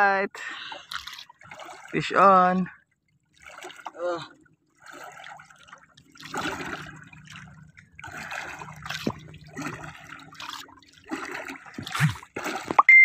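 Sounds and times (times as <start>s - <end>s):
water lapping against boat hull: 0.4s - 13.0s.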